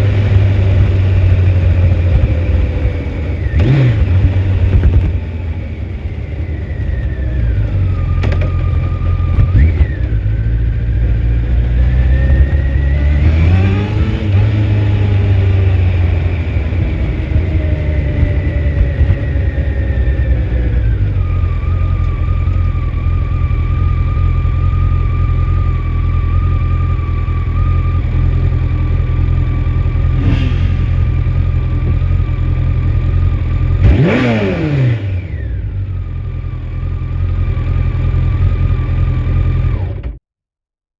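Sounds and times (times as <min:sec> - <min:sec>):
motorcycle engine running: 0:00.0 - 0:40.2.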